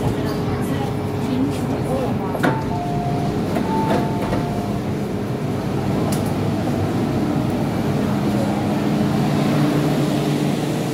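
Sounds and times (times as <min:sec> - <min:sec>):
electric train rumble and hiss: 0:00.0 - 0:10.9.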